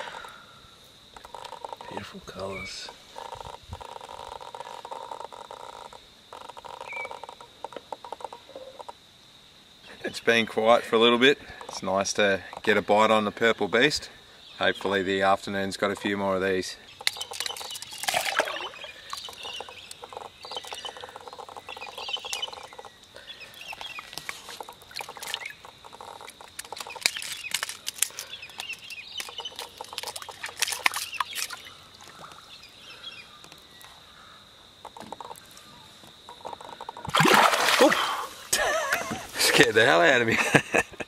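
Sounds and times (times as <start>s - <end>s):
birds calling: 1.2s - 8.8s, 9.8s - 40.6s.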